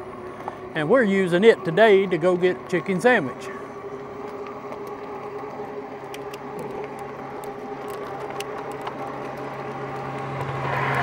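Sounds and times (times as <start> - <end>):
electric bike motor whirring: 0.0 - 11.0
vehicle approaching: 0.0 - 11.0.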